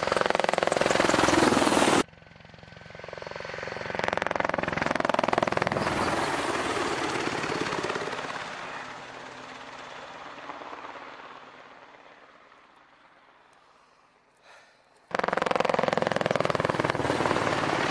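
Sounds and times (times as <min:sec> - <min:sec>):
helicopter rotor blades beating: 0:00.0 - 0:13.2, 0:15.1 - 0:17.9
turboshaft engine whine: 0:00.0 - 0:13.6, 0:15.1 - 0:17.9.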